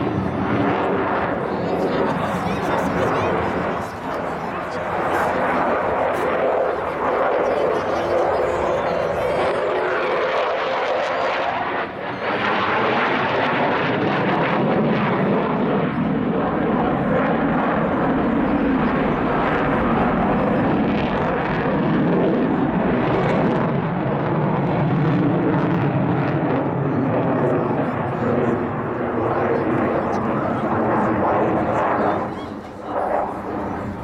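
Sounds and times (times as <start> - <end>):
jet fighter engines roaring: 0.0 - 34.0.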